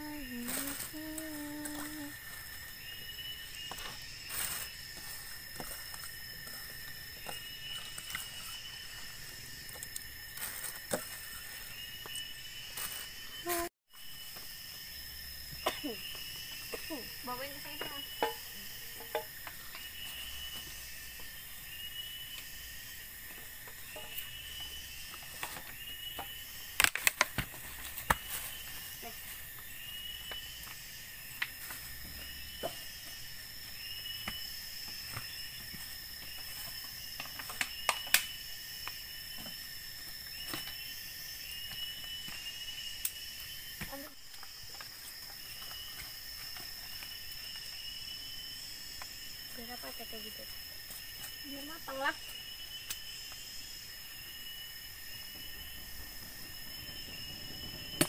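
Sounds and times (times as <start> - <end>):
insect chirping call: 0.0 - 58.0
insects buzzing: 0.0 - 58.0.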